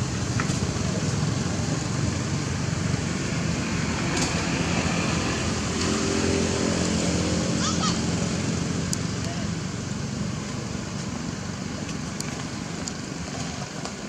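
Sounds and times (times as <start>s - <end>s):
faint engine hum: 0.0s - 14.0s
motorbike traffic rumbling: 0.0s - 14.0s.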